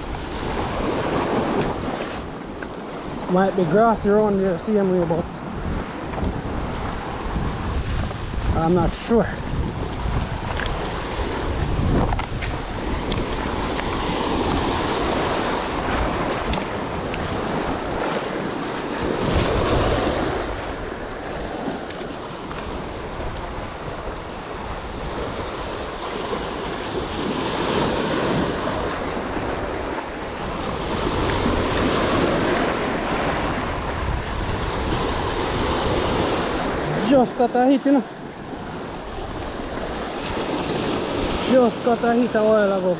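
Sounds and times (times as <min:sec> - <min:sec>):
waves breaking on rocky shore: 0:00.0 - 0:42.9
wind buffeting microphone: 0:00.0 - 0:42.9.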